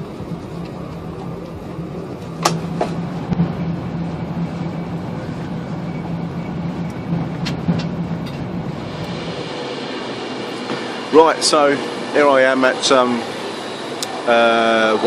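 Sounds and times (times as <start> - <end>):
train engine humming: 0.0 - 15.0.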